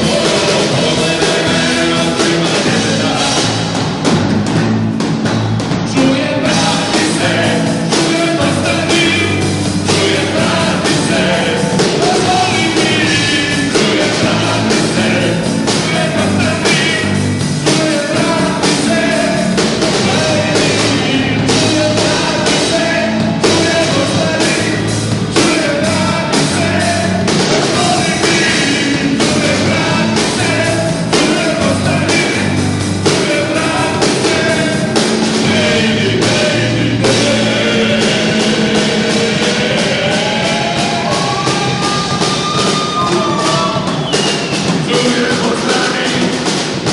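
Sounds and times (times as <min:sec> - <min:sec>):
man singing into microphone: 0:00.0 - 0:03.7, 0:05.9 - 0:46.9
drum kit: 0:00.0 - 0:46.9
electric bass: 0:00.0 - 0:46.9
electric guitar: 0:00.0 - 0:46.9.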